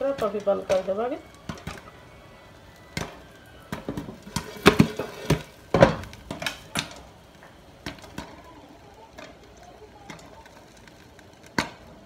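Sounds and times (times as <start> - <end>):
popcorn popping in a pan: 0.0 - 12.0.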